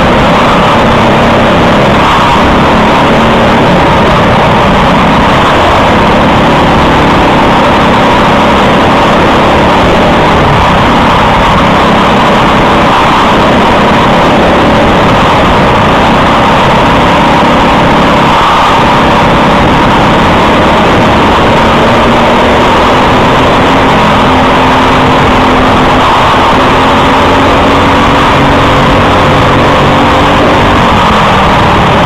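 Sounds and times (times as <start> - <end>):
kart engine running hard: 0.0 - 32.0.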